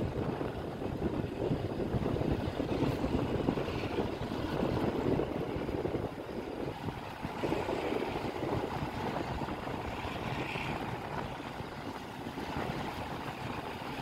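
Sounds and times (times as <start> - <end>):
train wheels running on rails: 0.0 - 14.0.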